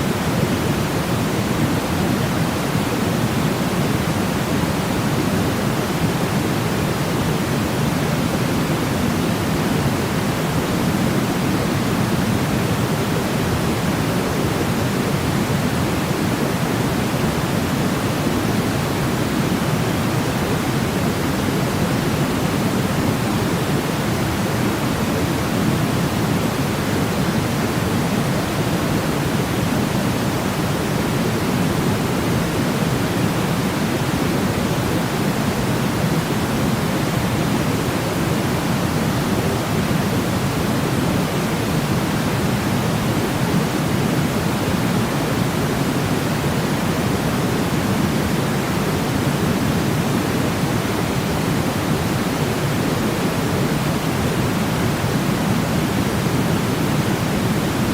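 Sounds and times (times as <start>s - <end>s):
steady white noise hiss: 0.0s - 57.9s.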